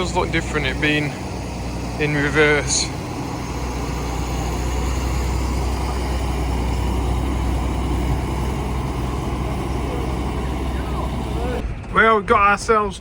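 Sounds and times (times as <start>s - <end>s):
diesel tractor engine running: 0.0s - 12.5s.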